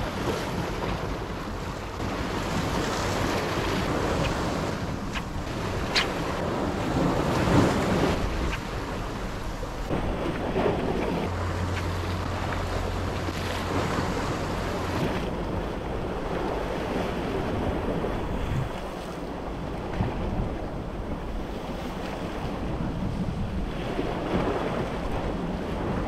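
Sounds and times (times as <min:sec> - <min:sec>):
waves breaking on rocks: 0:00.0 - 0:26.0
wind buffeting microphone: 0:00.0 - 0:26.0.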